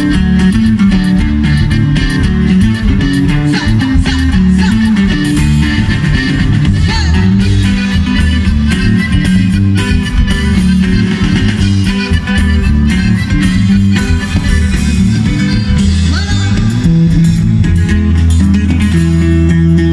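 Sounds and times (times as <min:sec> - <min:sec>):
accordion: 0:00.0 - 0:19.9
electric guitars: 0:00.0 - 0:19.9
heavy bass line: 0:00.0 - 0:19.9
live band playing loud: 0:00.0 - 0:19.9.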